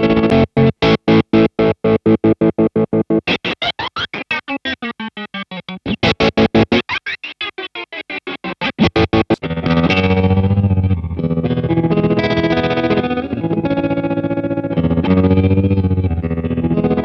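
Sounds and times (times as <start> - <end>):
electric guitar with tremolo: 0.0 - 17.0.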